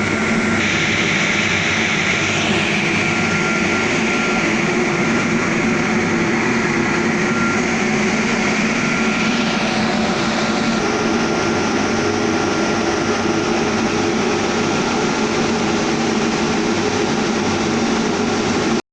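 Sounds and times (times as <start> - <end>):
glass washing machine running: 0.0 - 18.8.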